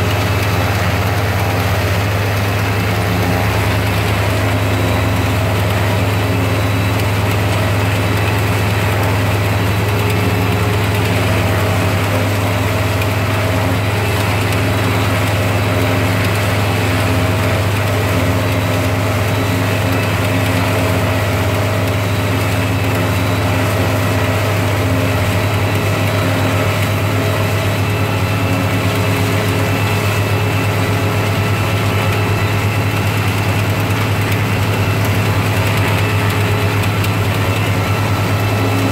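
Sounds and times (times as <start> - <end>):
forage chopper droning: 0.0 - 38.9
tractor engine under load: 0.0 - 38.9.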